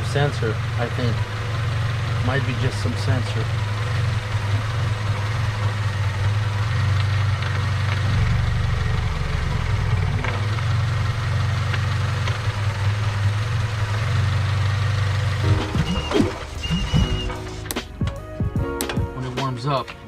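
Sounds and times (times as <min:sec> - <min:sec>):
car engine idling unevenly: 0:00.0 - 0:20.0.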